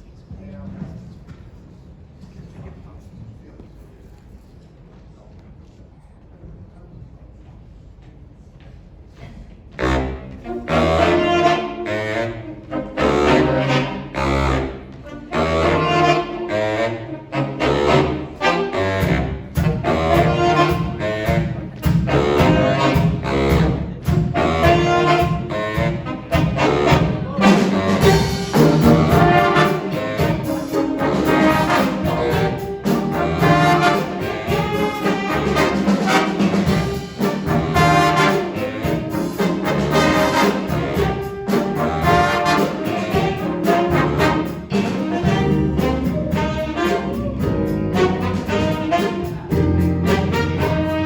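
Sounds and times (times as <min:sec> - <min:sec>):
jazz big band playing: 0:09.8 - 0:51.0.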